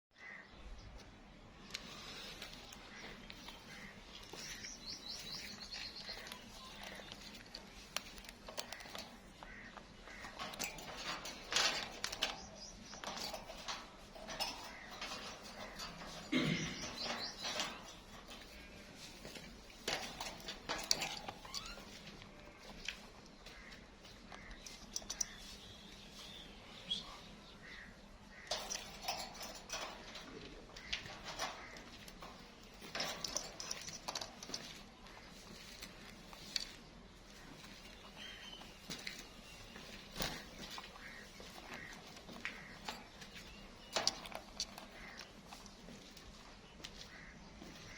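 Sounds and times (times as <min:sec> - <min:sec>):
clicks and taps on metal cage: 0:01.7 - 0:25.6, 0:28.2 - 0:36.8, 0:38.7 - 0:47.9.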